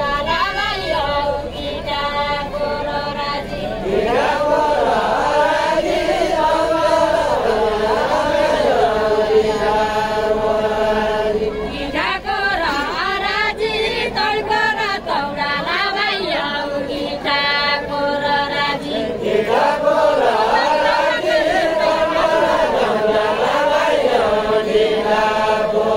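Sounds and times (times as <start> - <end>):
men singing unaccompanied: 0.0 - 25.9.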